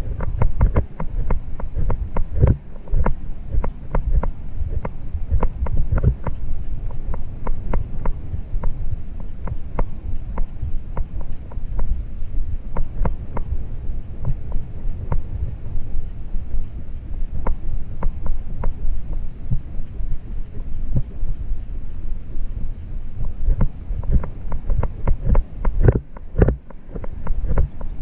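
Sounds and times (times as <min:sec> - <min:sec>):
horse hoofbeats on dirt: 0:00.0 - 0:28.0.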